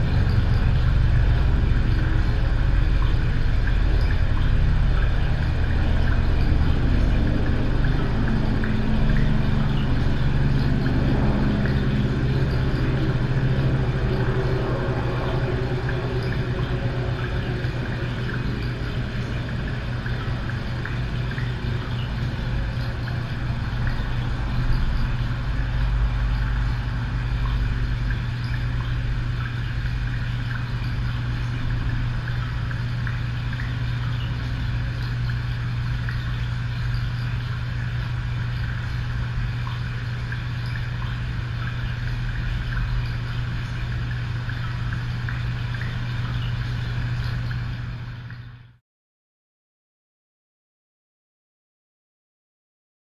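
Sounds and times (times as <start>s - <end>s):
low machinery hum: 0.0s - 48.8s.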